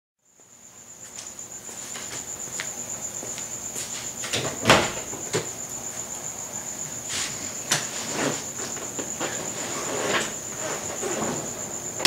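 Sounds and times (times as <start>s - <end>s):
cricket chirping: 0.2s - 12.0s.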